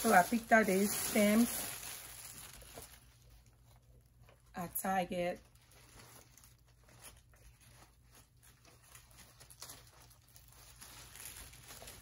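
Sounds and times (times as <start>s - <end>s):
rustling of flower stems: 0.0s - 3.9s, 5.4s - 12.0s
low room hum: 0.0s - 12.0s.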